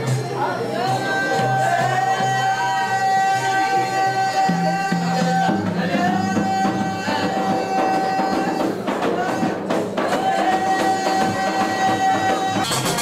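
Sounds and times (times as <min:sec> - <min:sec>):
drums: 0:00.0 - 0:13.0
live band held high note: 0:00.0 - 0:13.0.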